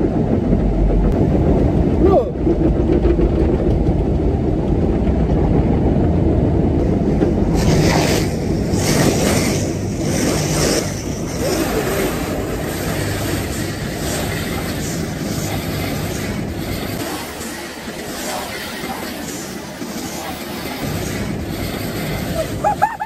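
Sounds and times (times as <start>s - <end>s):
car wash machinery rumble: 0.0s - 23.0s.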